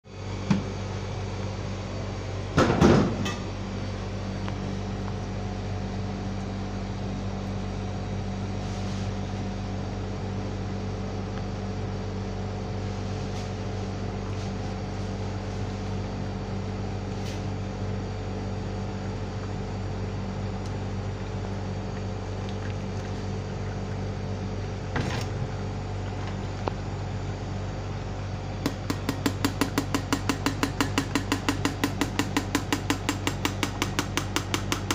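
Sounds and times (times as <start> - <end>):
electric hum: 0.0 - 34.9.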